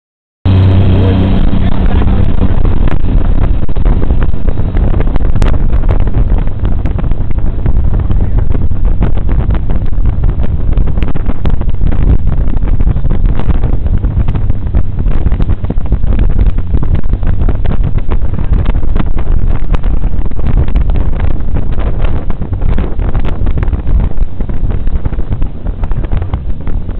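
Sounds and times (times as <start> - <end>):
boat engine hum: 0.5 - 26.9
wind buffeting microphone: 0.5 - 26.9.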